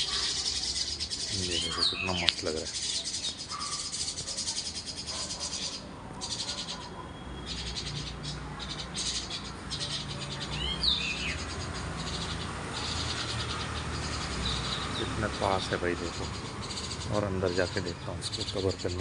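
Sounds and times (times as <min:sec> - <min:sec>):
falling bird chirps: 0:00.0 - 0:19.0
insects trilling: 0:00.0 - 0:19.0.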